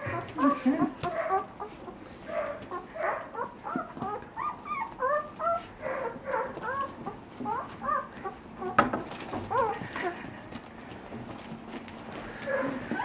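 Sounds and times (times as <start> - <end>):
puppies squeaking and whimpering: 0.0 - 10.4, 12.1 - 13.0.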